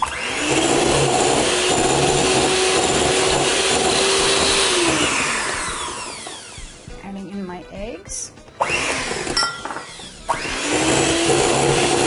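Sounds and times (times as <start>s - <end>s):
electric hand mixer running: 0.0s - 6.9s, 8.5s - 12.0s
mixer spinning down: 0.0s - 6.9s, 8.6s - 12.0s.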